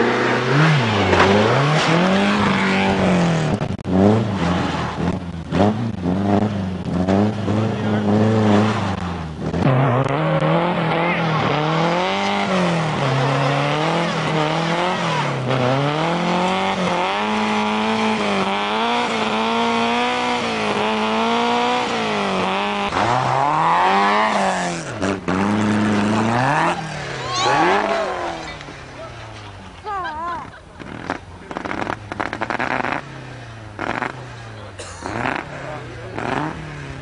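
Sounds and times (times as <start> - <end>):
car engine revving: 0.0 - 29.8, 30.6 - 37.0.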